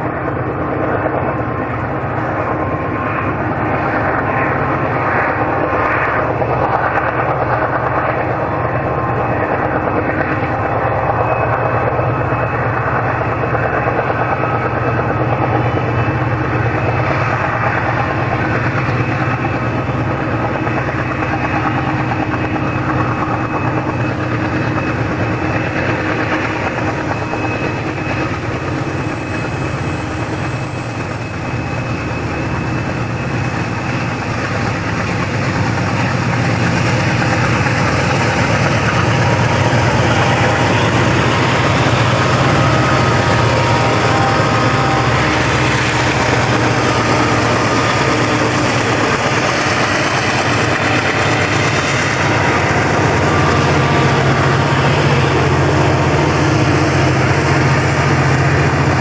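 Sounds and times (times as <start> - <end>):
diesel locomotive engine drone: 0.0 - 59.0
thin whines: 0.0 - 59.0
wheels on rails: 0.0 - 59.0.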